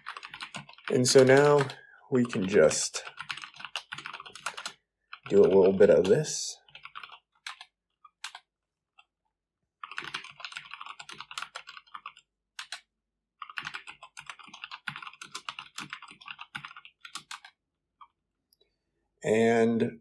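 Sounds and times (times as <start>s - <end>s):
typing on computer keyboard: 0.0s - 8.5s, 9.8s - 18.2s.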